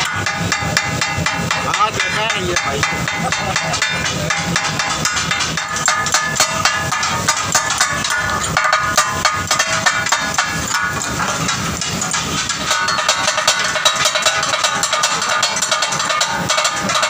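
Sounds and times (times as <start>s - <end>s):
steel blades clanging on griddle: 0.0s - 17.0s.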